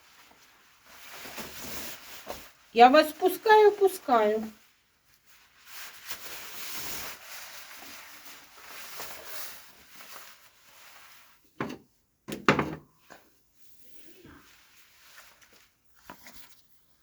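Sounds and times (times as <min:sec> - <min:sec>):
rustling and handling noise: 0:00.0 - 0:17.0.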